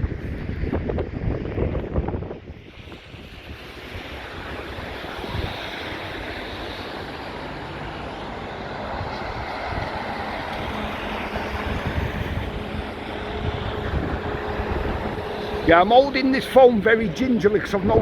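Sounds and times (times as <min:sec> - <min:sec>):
wind blowing across microphone: 0:00.0 - 0:18.0.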